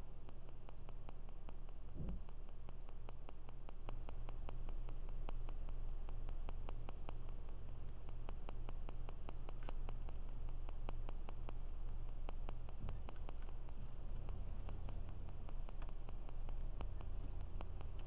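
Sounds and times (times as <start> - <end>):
fast sharp ticking: 0.1 - 18.0.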